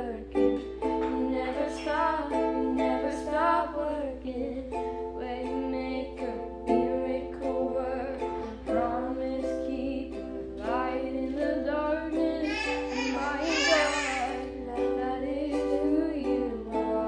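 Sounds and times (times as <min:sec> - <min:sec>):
strummed acoustic string instrument: 0:00.0 - 0:17.0.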